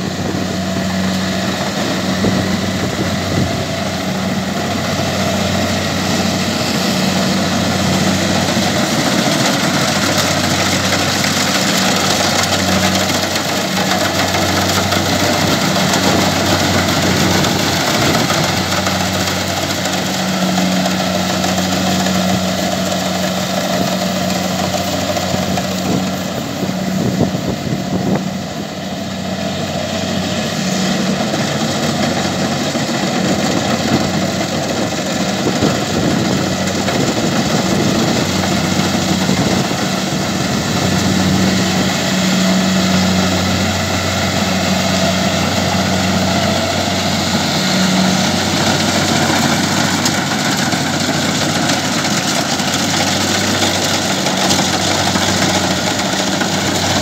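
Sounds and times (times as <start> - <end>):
diesel engine drone: 0.0 - 57.0
harvester cutting and threshing: 0.0 - 57.0.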